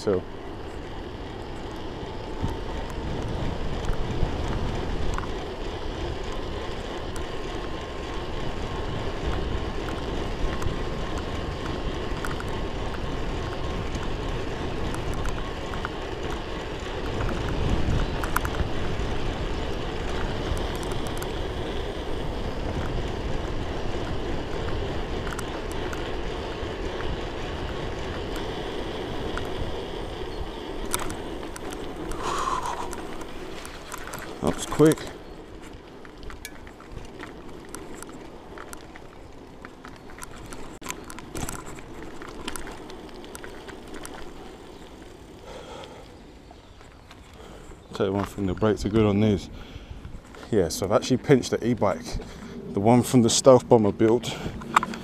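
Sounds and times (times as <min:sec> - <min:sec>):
wind rushing over microphone: 0:00.0 - 0:39.2, 0:47.4 - 0:55.0
bike tyre noise on tarmac: 0:00.0 - 0:55.0.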